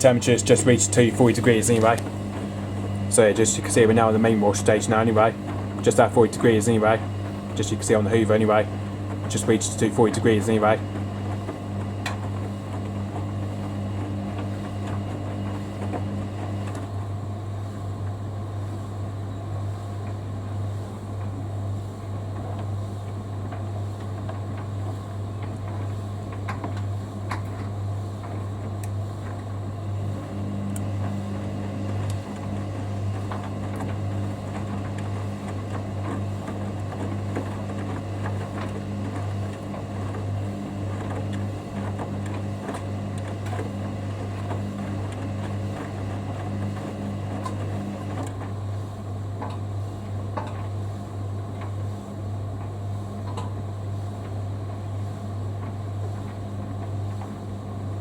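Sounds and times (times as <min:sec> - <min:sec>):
washing machine humming: 0:00.0 - 0:58.0
washing machine motor tone: 0:00.0 - 0:58.0.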